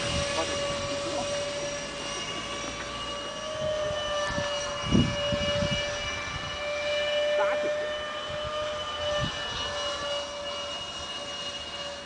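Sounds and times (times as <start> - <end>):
model jet ducted fans whining: 0.0 - 12.0.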